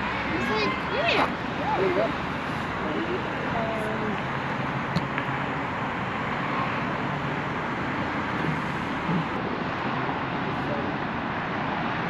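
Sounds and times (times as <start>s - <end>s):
outdoor background rush: 0.0s - 12.0s.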